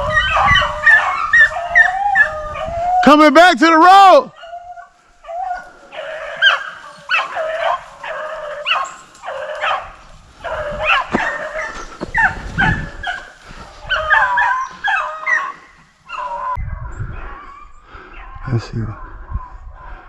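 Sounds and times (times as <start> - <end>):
dogs baying and yelping: 0.0 - 3.1, 4.3 - 20.0.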